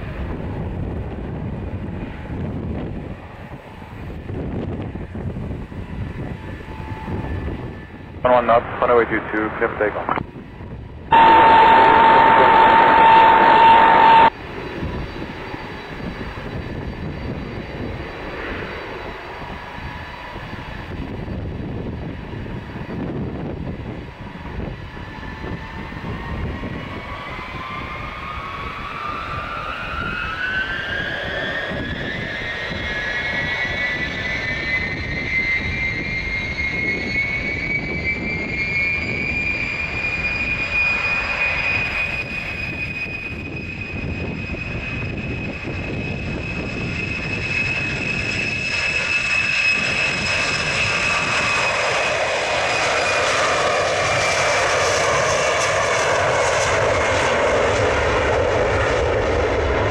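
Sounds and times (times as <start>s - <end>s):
deep jet roar: 0.0s - 15.0s, 16.0s - 59.9s
jet engine whine rising: 0.0s - 59.9s.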